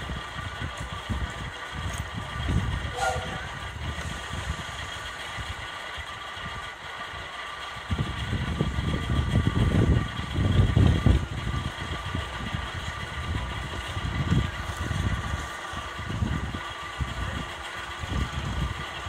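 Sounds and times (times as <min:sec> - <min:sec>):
steady background hum: 0:00.0 - 0:19.0
train rumbling: 0:00.0 - 0:19.0.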